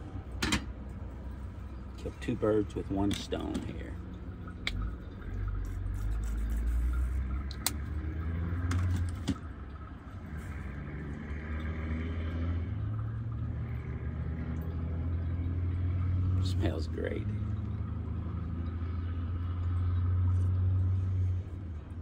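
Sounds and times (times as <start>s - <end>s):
low vehicle engine rumble: 0.0s - 22.0s.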